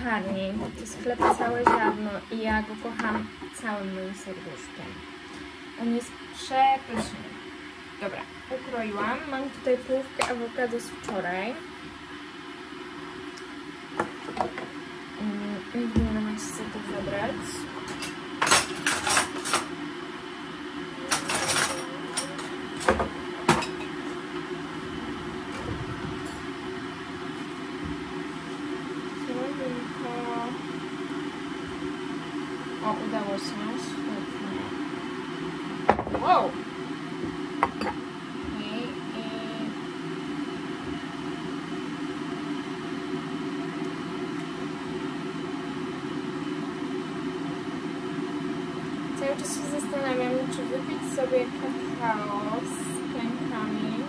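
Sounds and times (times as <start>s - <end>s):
kitchen appliance whirring: 0.0s - 54.0s
low background hum: 0.0s - 54.0s.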